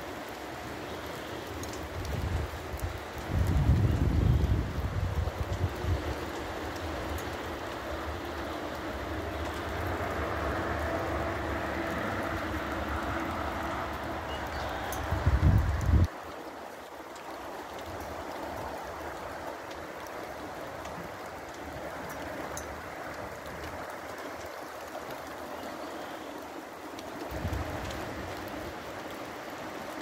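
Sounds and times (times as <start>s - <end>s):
rain falling: 0.0s - 30.0s
river rushing: 4.7s - 30.0s.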